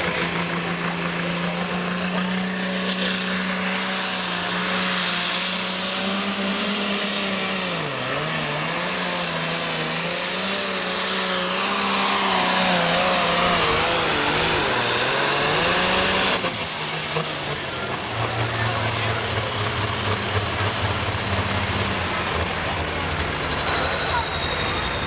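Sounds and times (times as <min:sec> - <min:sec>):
diesel tractor engine at full throttle: 0:00.0 - 0:25.0
turbo whine: 0:00.0 - 0:25.0.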